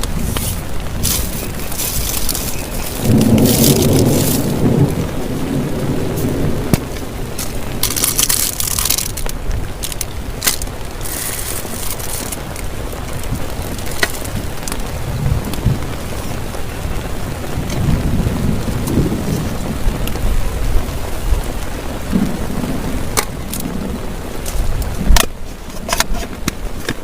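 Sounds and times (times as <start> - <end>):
thunder rumble: 0.0 - 25.5
heavy rain on a tarp: 0.0 - 27.0.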